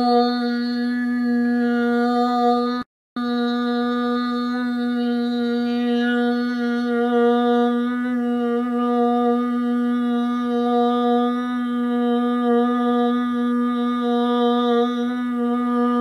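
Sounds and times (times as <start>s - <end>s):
man humming low note: 0.0s - 16.0s.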